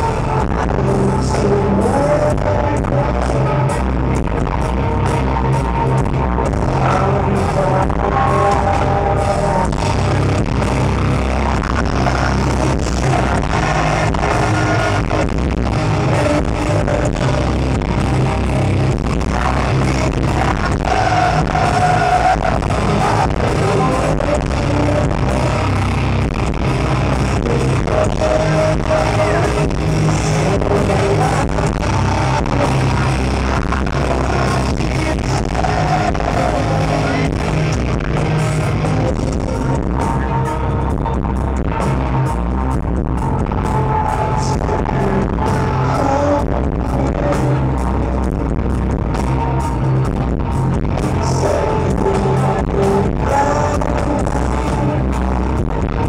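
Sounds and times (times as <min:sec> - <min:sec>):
person singing: 0:00.0 - 0:04.0, 0:06.4 - 0:40.5, 0:43.8 - 0:48.4, 0:51.0 - 0:55.6
live metal band playing: 0:00.0 - 0:56.0.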